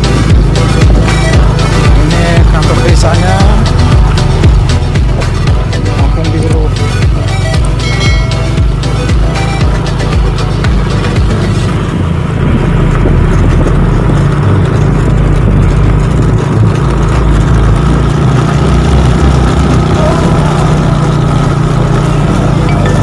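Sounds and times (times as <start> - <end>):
motorcycle engine rumble: 0.0 - 23.0.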